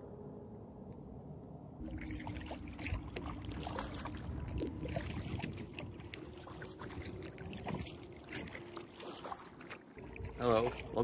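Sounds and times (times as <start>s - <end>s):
small water splashes: 1.8s - 11.0s
water dripping off paddle: 1.8s - 11.0s.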